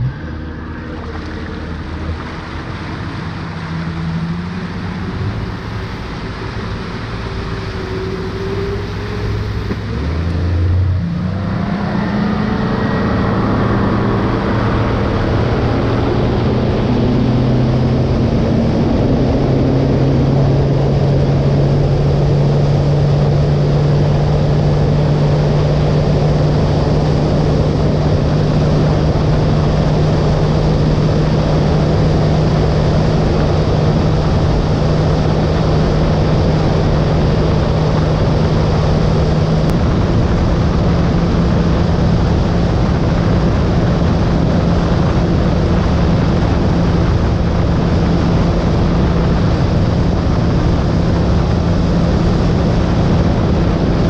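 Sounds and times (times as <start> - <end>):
outboard motor running: 0.0 - 54.0
rush of wind and water: 0.0 - 54.0.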